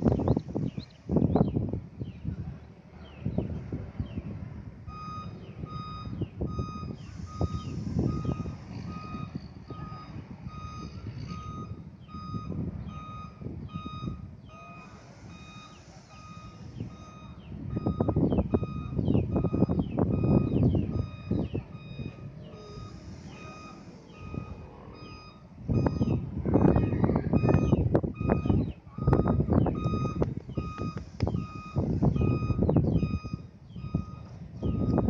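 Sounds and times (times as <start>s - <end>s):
low engine rumble: 0.0s - 35.0s
vehicle reversing alarm beeping: 3.2s - 35.0s.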